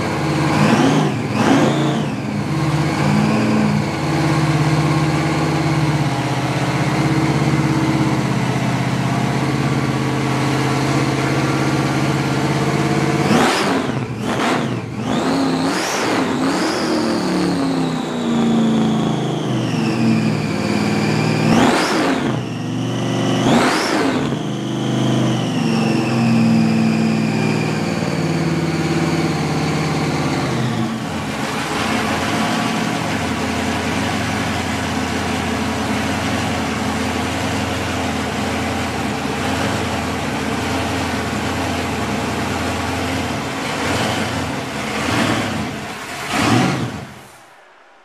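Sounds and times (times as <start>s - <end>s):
engine throttle blips: 0.0s - 48.0s
supercharged engine revving: 0.0s - 48.0s
supercharger whine: 0.0s - 48.0s.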